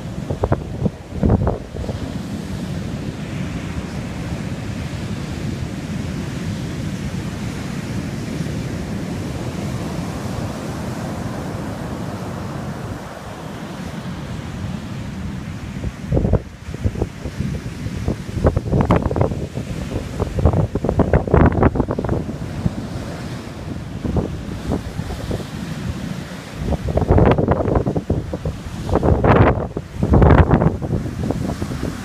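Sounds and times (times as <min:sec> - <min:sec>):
storm surf breaking on beach: 0:00.0 - 0:32.0
wind buffeting microphone: 0:00.0 - 0:32.0.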